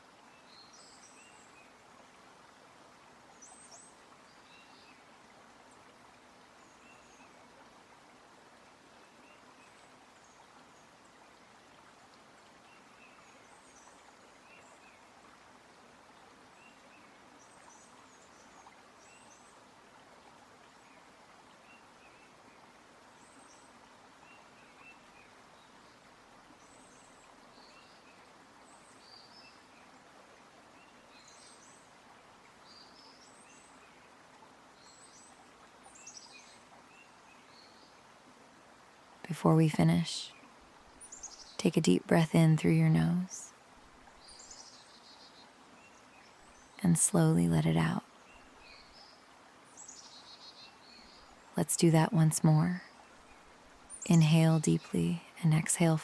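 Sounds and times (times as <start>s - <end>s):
soft steady forest rush: 0.0s - 56.0s.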